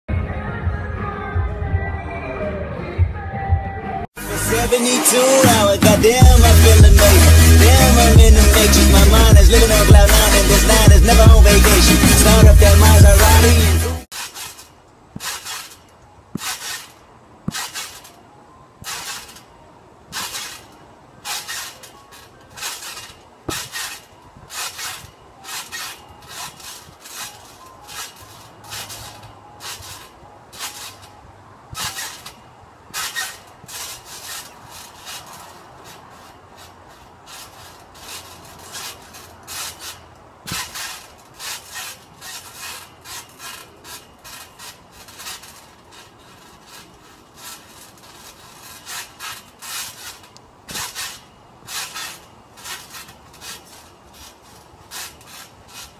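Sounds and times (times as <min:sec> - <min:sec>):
trampoline springs creaking: 0:04.2 - 0:55.9.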